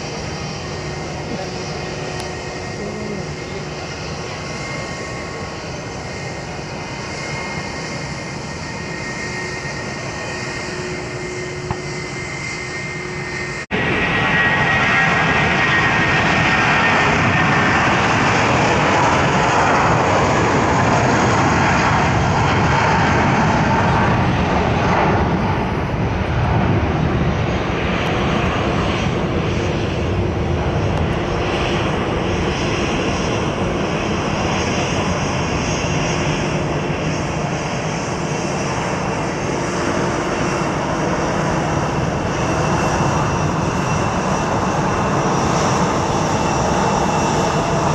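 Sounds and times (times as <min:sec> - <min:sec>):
jet engines at takeoff: 0:00.0 - 0:47.9.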